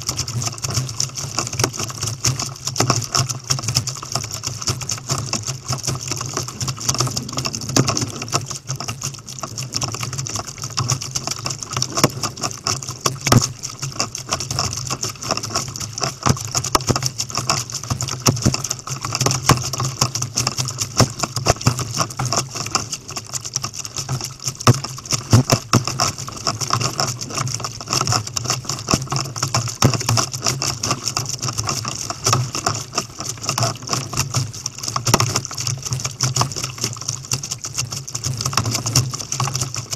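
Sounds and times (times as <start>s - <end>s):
crackle of spray and waves: 0.0s - 39.9s
water splashing against kayak: 0.0s - 39.9s.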